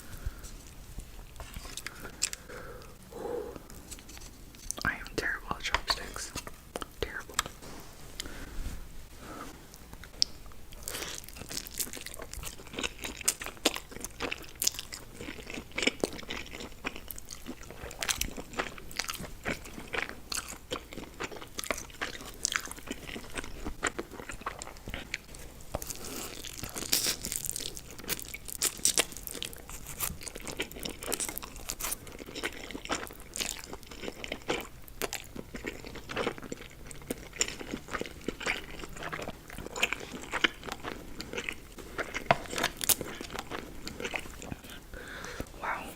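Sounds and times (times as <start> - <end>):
person eating crunchily: 0.1 - 5.0, 10.0 - 45.9.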